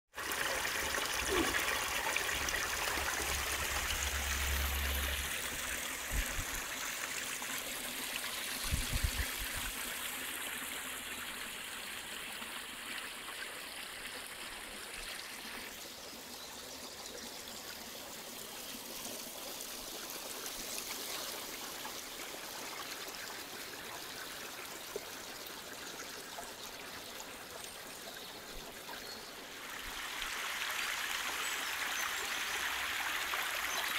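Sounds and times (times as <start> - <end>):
stream trickling over stones: 0.1 - 33.9.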